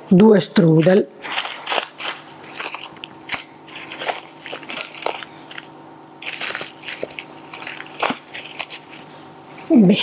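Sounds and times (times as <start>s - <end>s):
cling film crinkling: 0.8s - 9.2s.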